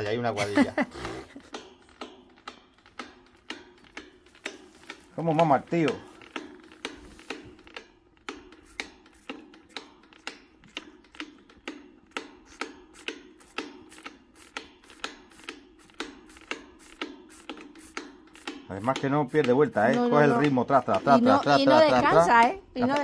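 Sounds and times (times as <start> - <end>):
calf suckling from feeder: 0.9 - 20.4
feeder valve clicks: 1.3 - 21.2.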